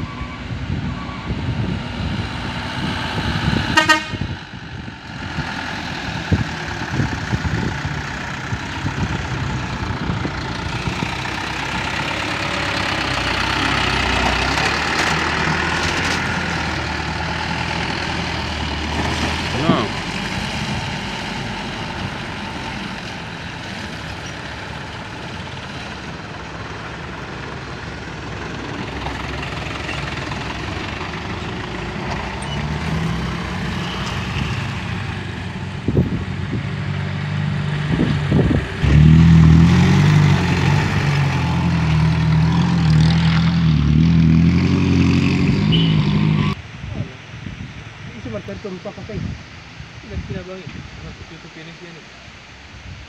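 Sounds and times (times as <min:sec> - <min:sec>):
loud engine running close by: 0:00.0 - 0:46.6
road traffic passing: 0:00.0 - 0:53.0.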